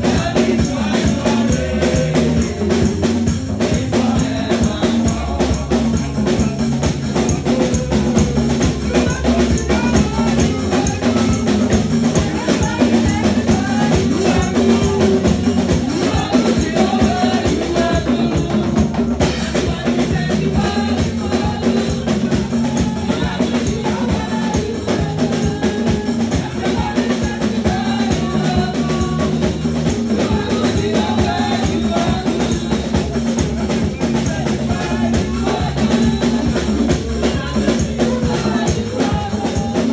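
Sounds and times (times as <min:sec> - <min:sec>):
church band playing praise music: 0:00.0 - 0:39.9
drum kit beat: 0:00.0 - 0:39.9
tambourine: 0:00.0 - 0:39.9.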